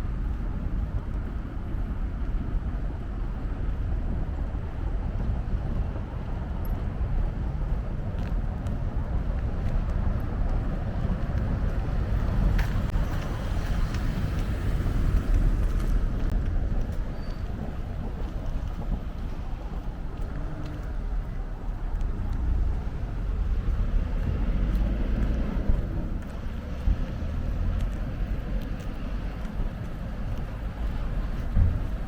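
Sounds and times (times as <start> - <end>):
road traffic rumble: 0.0 - 32.0
wind on microphone: 0.0 - 32.0.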